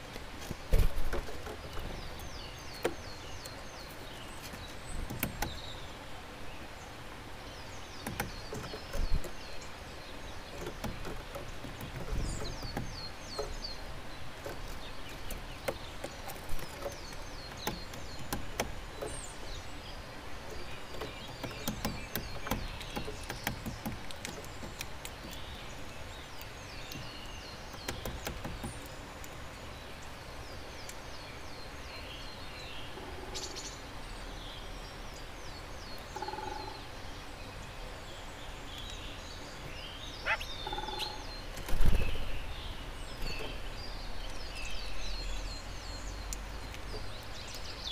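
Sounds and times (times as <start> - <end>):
small birds calling and singing: 0.0 - 47.9.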